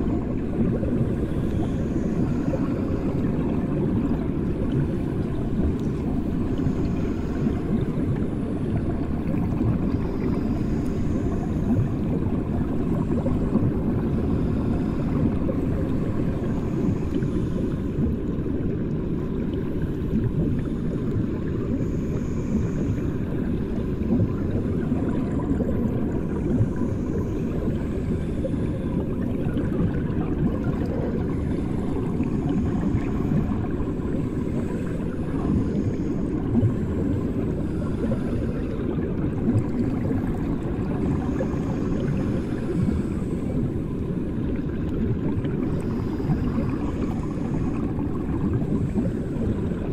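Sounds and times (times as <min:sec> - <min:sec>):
fine underwater crackling: 0:00.0 - 0:49.9
underwater low rumble: 0:00.0 - 0:49.9.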